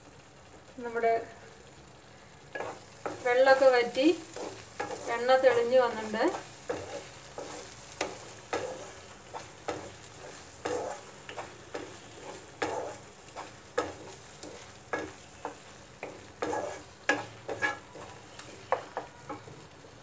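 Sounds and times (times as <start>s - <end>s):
soft sizzle: 0.0s - 20.0s
wooden spatula scraping pan: 2.6s - 20.0s.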